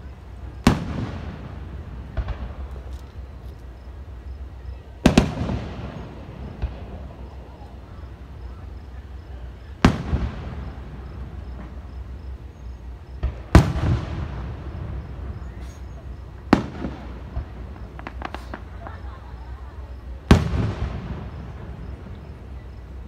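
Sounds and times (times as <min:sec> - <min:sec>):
firework booms: 0:00.4 - 0:03.9, 0:05.0 - 0:12.4, 0:13.1 - 0:22.9.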